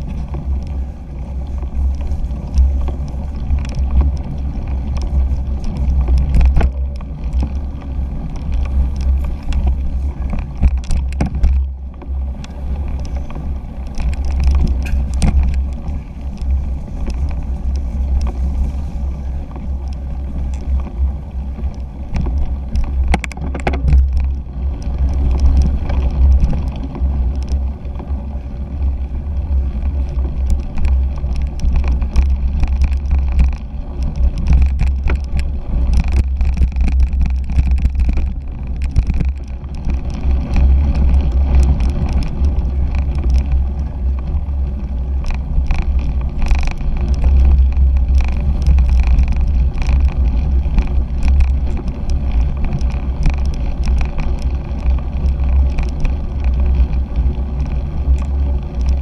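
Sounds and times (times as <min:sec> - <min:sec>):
bike clicks and rattles: 0:00.0 - 0:59.0
wind and vibration rumble: 0:00.0 - 0:59.0.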